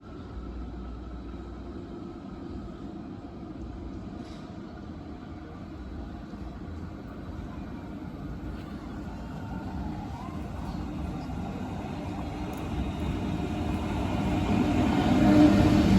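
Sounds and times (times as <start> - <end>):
train rumbling: 0.1 - 15.9.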